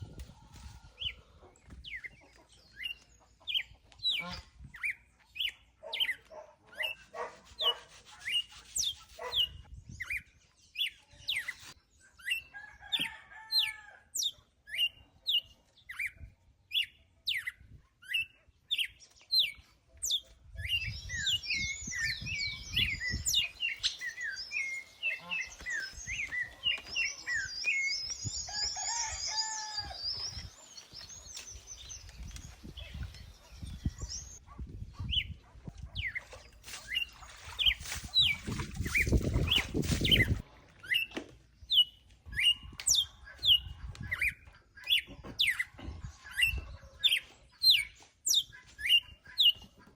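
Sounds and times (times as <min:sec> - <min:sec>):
birds chirping: 0:00.8 - 0:12.9, 0:14.2 - 0:49.9.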